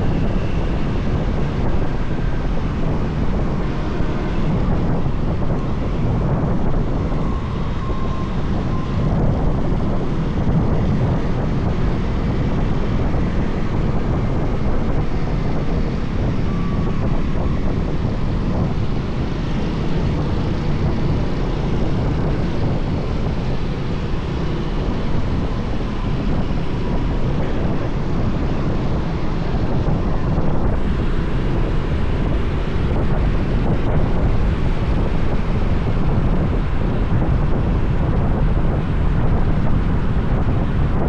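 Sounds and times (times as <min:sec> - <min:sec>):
motorbike engine drone: 0:00.0 - 0:41.0
wind rushing on microphone: 0:00.0 - 0:41.0.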